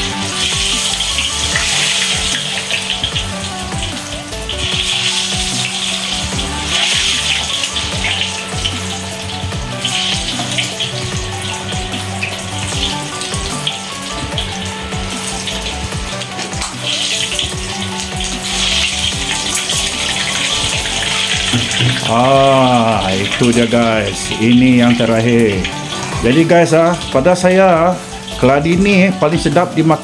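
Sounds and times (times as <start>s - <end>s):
background music: 0.0s - 30.0s
slices deep-frying in hot oil: 0.0s - 30.0s.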